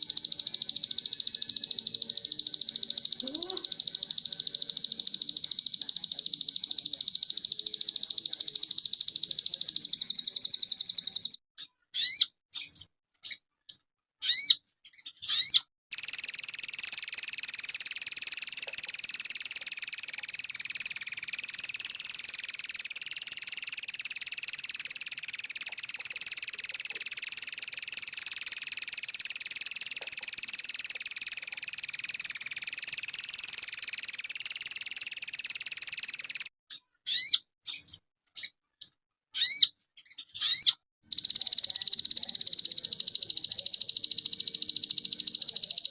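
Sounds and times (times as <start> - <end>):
songbird trilling and whistling: 0.0 - 11.4, 12.0 - 13.4, 14.2 - 36.5, 37.1 - 38.5, 39.4 - 45.9.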